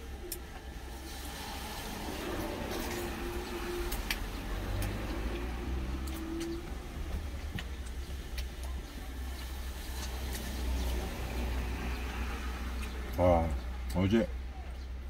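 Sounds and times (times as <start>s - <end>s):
truck engine idling rumble: 0.0s - 15.0s.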